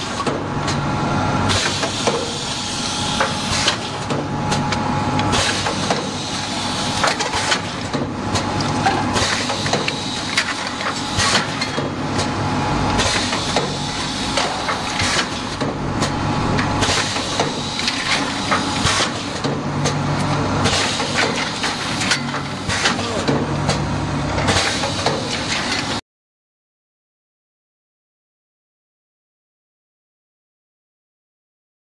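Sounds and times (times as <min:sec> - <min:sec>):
filling machine mechanical din: 0:00.0 - 0:26.0.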